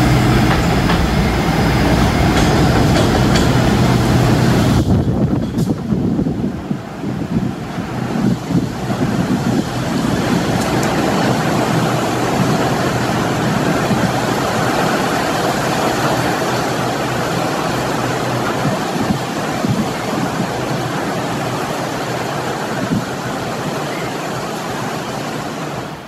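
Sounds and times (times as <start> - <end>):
locomotive engine hum: 0.0 - 26.0
wheels rumbling on rails: 0.0 - 26.0.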